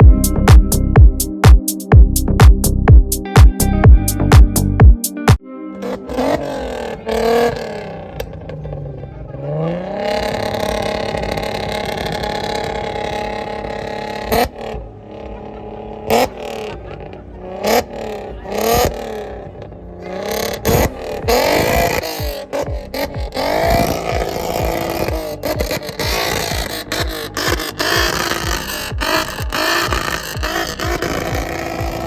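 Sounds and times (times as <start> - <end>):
vehicle engine revving: 5.8 - 32.0.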